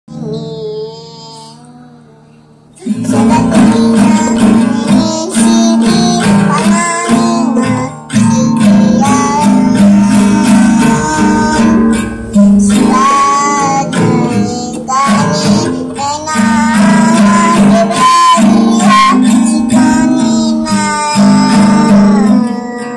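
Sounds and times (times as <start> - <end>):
child singing: 0.1 - 22.9
acoustic guitar strumming: 2.8 - 22.9.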